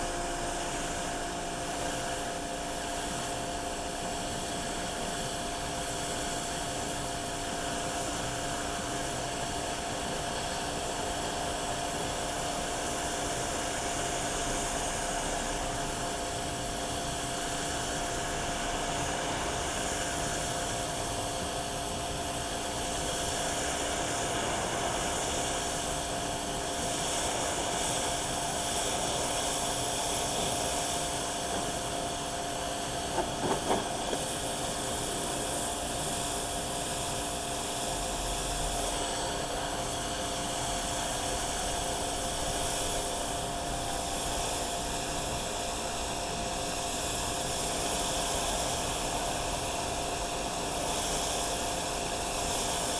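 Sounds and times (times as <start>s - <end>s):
hissing machine noise: 0.0s - 52.9s.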